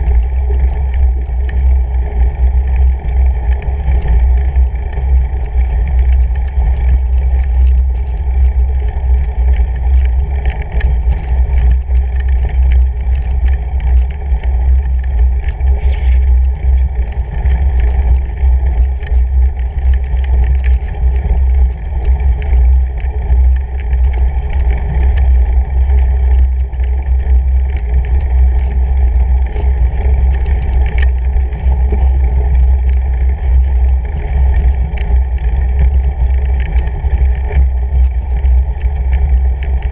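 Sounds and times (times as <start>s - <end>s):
bike tyres rumbling on snow: 0.0s - 39.9s.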